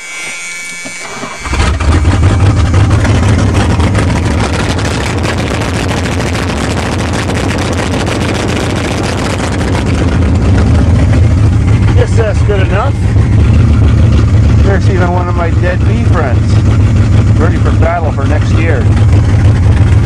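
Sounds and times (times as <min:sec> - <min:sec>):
low exhaust rumble: 0:00.0 - 0:20.0
old car engine running: 0:00.8 - 0:20.0.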